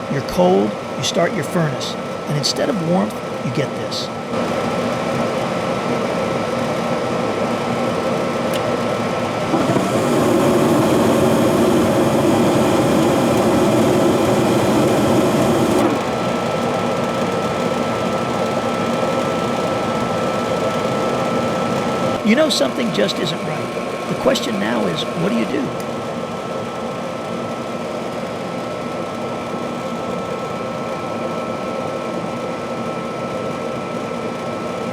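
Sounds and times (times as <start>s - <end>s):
furnace motor humming and whining: 0.0s - 34.9s.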